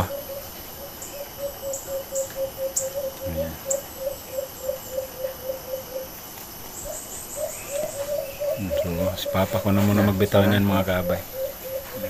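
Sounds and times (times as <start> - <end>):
dove hooting: 0.0 - 12.0.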